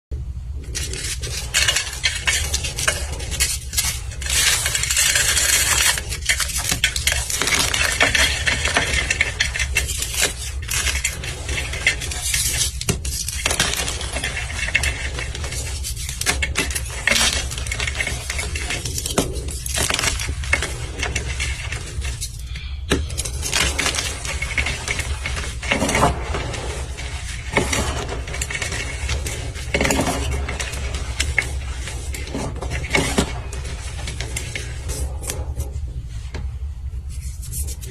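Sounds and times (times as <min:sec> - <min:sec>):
steady low hum: 0:00.1 - 0:37.9
block crunching and crumbling: 0:00.7 - 0:35.6.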